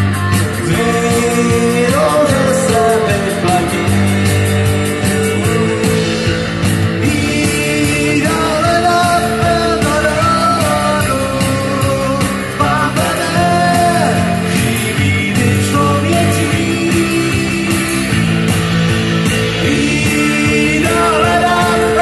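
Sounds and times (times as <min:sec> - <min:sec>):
person singing: 0:00.0 - 0:18.3, 0:19.5 - 0:22.0
rock band playing: 0:00.0 - 0:22.0.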